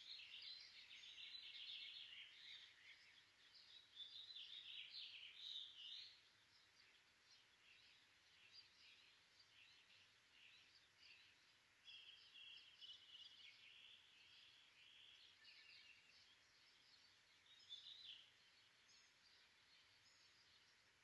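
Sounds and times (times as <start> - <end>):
background hiss: 0.0 - 21.0
faint birds chirping: 0.0 - 21.0.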